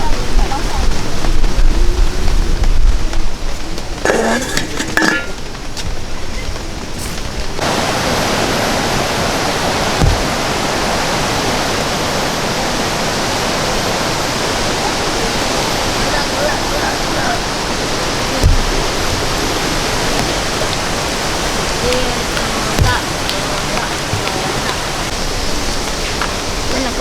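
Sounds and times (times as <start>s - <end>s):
dense rush of water: 0.0s - 27.0s.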